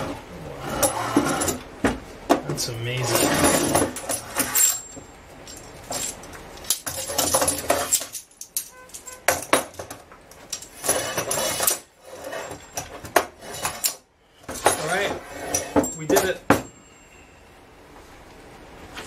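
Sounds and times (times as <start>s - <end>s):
metal tools clanking on workbench: 0.0s - 1.7s, 2.3s - 16.9s.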